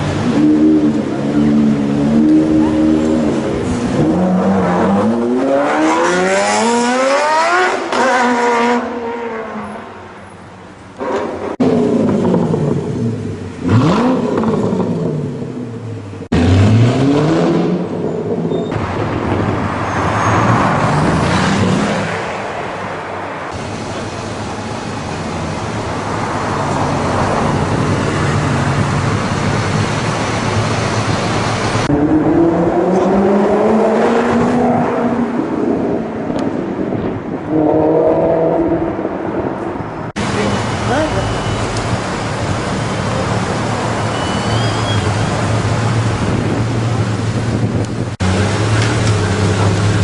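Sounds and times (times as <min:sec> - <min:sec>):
supercar engines revving: 0:00.0 - 0:09.7, 0:10.9 - 0:22.5, 0:23.5 - 0:50.0
road noise of passing car: 0:00.0 - 0:50.0.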